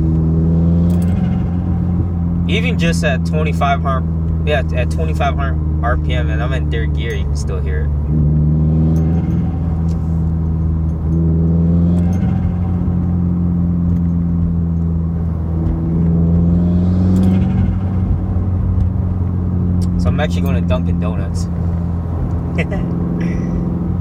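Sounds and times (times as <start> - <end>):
car engine drone from cabin: 0.0 - 24.0.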